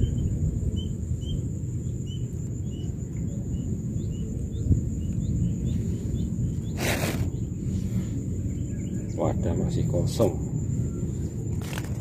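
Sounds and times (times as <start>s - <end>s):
high-pitched insect drone: 0.0s - 12.0s
low background rumble: 0.0s - 12.0s.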